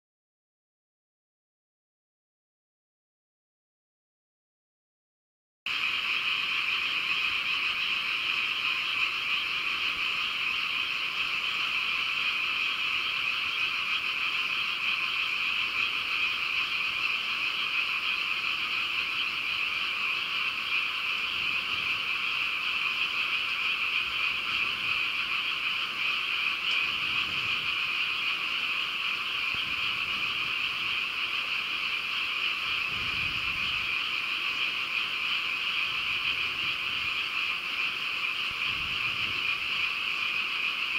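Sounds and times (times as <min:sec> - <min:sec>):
frogs trilling chorus: 0:05.7 - 0:40.9.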